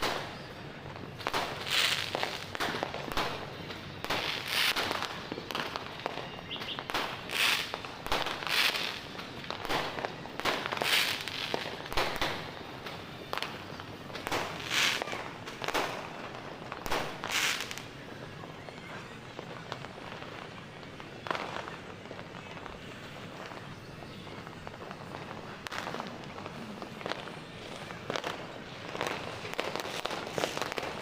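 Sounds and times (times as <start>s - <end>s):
distant explosions rumbling: 0.0s - 31.0s
fireworks and firecrackers banging: 0.0s - 31.0s.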